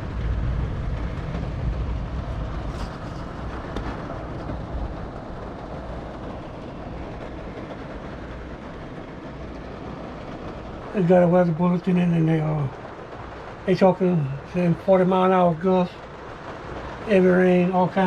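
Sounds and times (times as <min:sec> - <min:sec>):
rain: 0:00.0 - 0:18.0
thunder rumble: 0:00.0 - 0:18.0
wind: 0:00.0 - 0:18.0.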